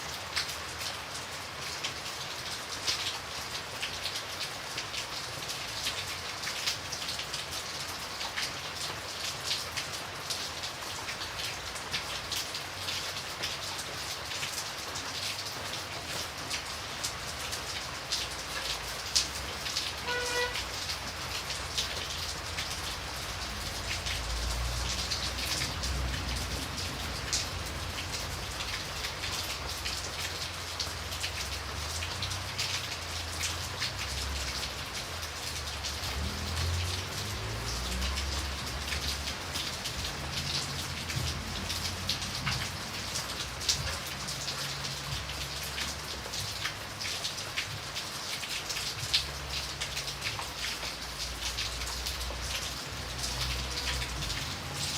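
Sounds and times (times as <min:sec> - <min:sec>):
rain drops hitting a surface: 0:00.0 - 0:54.9.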